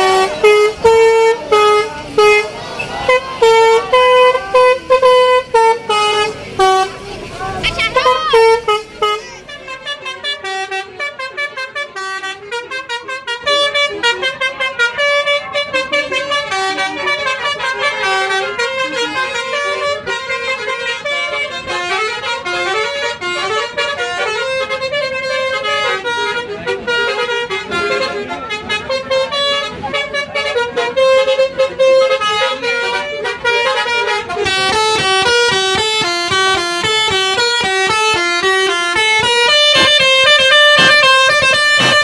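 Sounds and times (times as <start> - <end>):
bus musical horn tune: 0.0 - 42.0.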